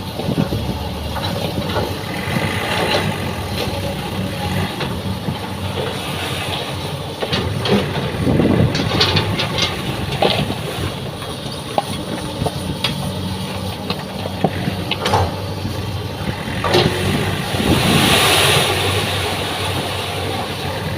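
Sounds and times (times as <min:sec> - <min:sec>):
diesel engine idling: 0:00.0 - 0:20.9
knocks and clanks: 0:00.2 - 0:20.9.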